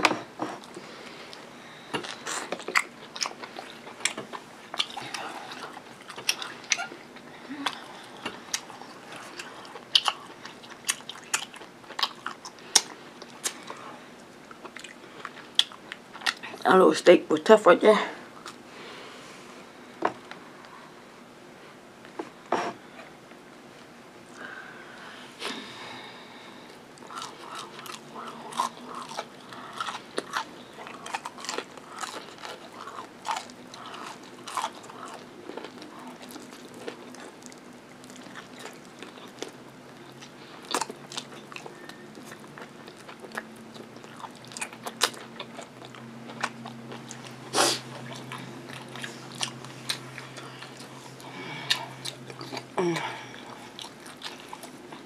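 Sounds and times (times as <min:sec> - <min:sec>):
person chewing crunchy food: 0:00.0 - 0:16.6, 0:26.7 - 0:55.0.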